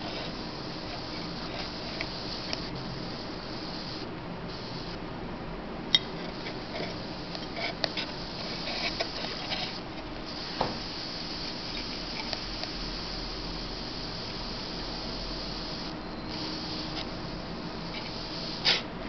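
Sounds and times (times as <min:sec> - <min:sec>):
sharp electrical clicks: 0:00.0 - 0:05.1, 0:05.9 - 0:19.0
high-voltage hiss: 0:00.0 - 0:05.2, 0:05.8 - 0:19.0.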